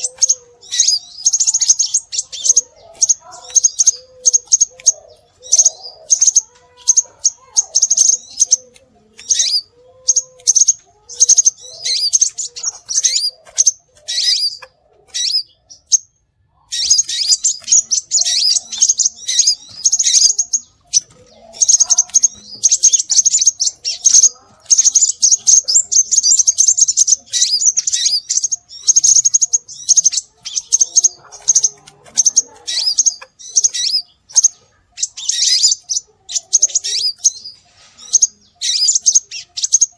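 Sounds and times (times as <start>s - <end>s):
bird chirping high and thin: 0.0s - 39.9s.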